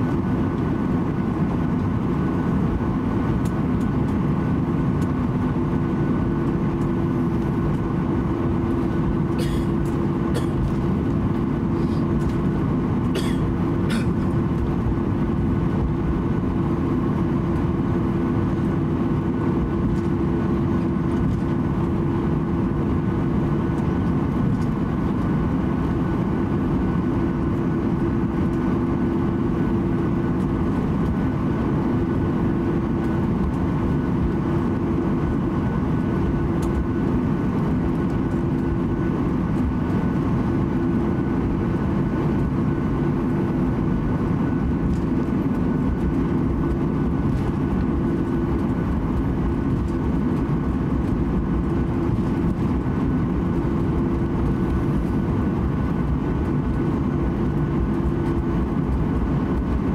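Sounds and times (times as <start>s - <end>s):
jet engine drone in aircraft cabin: 0.0s - 59.9s.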